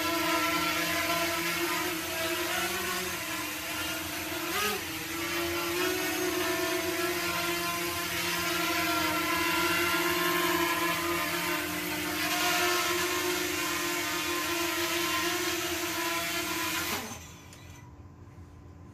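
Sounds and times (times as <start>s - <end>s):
quadcopter propellers whining: 0.0s - 17.8s.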